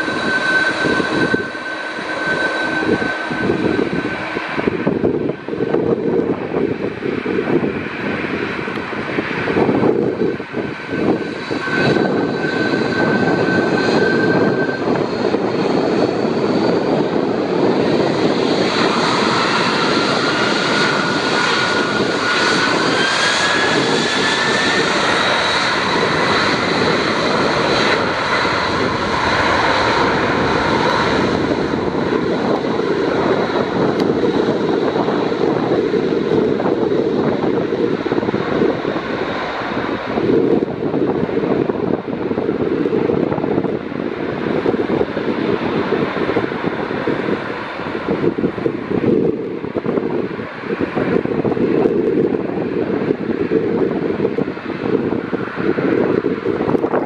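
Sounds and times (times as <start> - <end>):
jet engines roaring and whining: 0.0 - 57.0.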